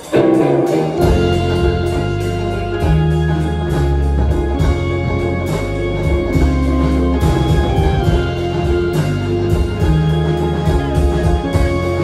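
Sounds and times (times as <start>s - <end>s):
banjo: 0.0s - 12.0s
drums: 0.0s - 12.0s
electric guitar: 0.0s - 12.0s
heavy low bass notes: 0.0s - 12.0s.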